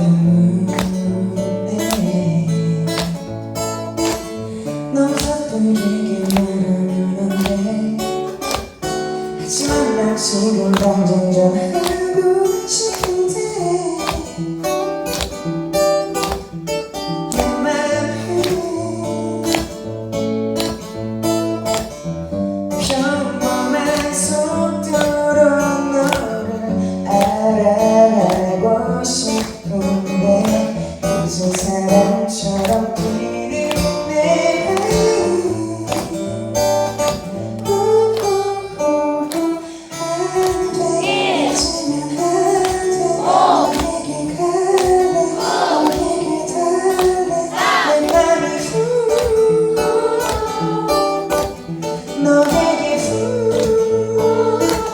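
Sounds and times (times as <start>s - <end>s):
guitar playing: 0.0s - 54.9s.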